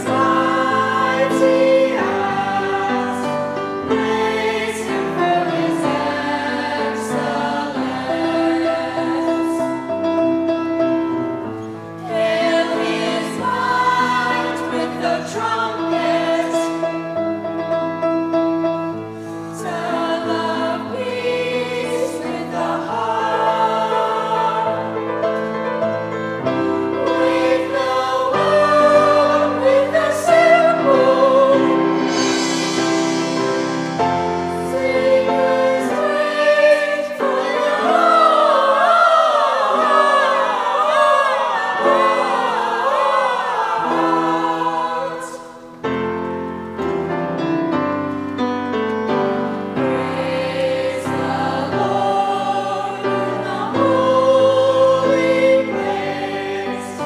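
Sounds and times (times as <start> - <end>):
choir singing: 0.0 - 46.4, 49.3 - 57.0
instrumental accompaniment: 0.0 - 57.0.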